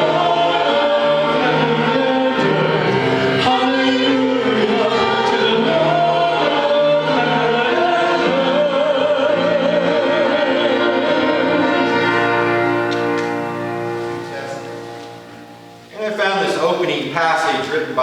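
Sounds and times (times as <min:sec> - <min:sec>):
voices singing with accompaniment: 0:00.0 - 0:18.0.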